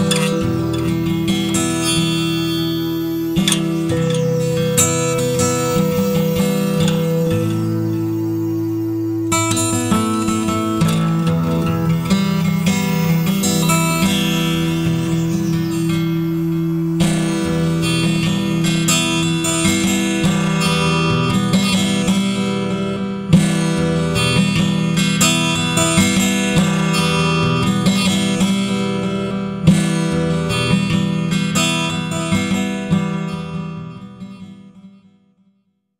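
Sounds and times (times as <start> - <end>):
music with plucked chords: 0.0 - 34.8.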